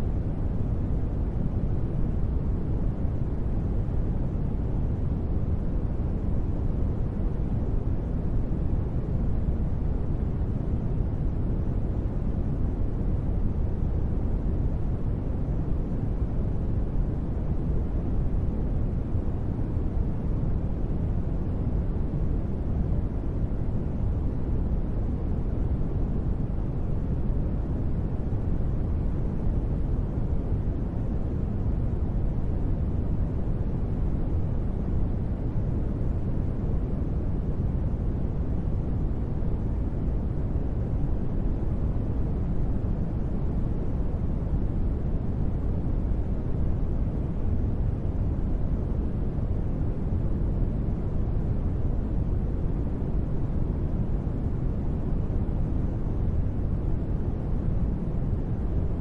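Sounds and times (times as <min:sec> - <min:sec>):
steady low ambient noise: 0:00.0 - 0:59.0.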